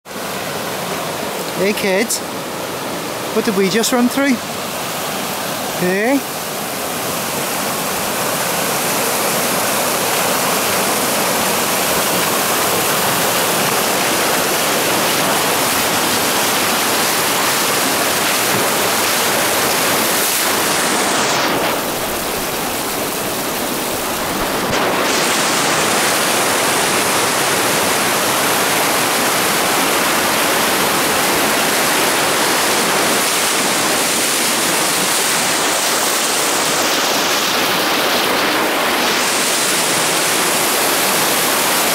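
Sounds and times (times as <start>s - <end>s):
river water rushing: 0.1s - 41.9s.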